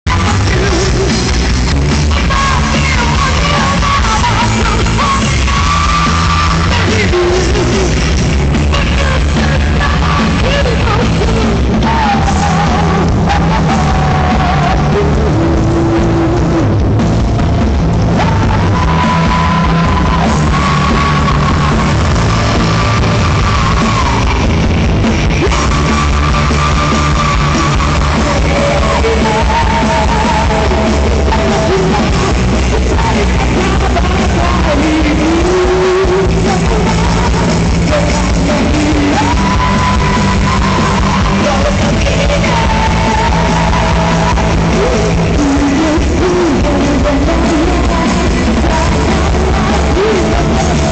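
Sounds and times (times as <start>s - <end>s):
rock band playing live: 0.0s - 50.9s
person singing: 0.1s - 50.9s.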